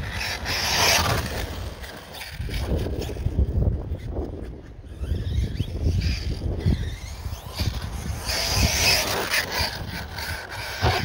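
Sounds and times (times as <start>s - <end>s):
rc car motor running: 0.0s - 11.0s
wind rumbling on microphone: 0.0s - 11.0s.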